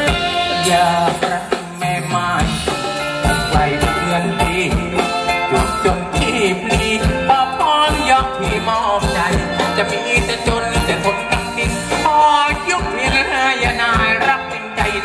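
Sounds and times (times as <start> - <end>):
live band dance music: 0.0 - 15.0
person singing: 0.0 - 15.0
steady drum beat: 0.0 - 15.0.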